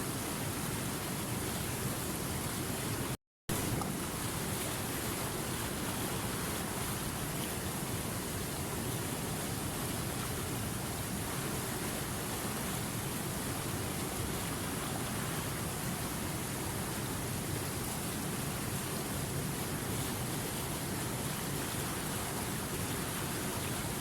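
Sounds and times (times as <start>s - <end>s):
river water rushing over rocks: 0.1s - 24.0s.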